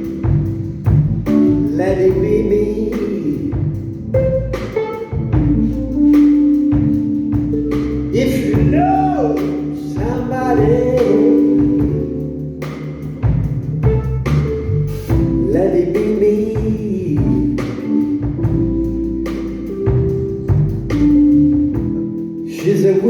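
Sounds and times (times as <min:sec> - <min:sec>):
live band playing: 0:00.0 - 0:23.0
wavering lead notes: 0:00.0 - 0:23.0.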